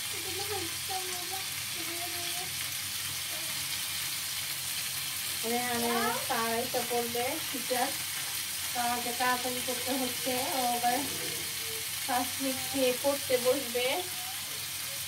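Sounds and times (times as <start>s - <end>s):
skewers sizzling in a pan: 0.0s - 15.0s.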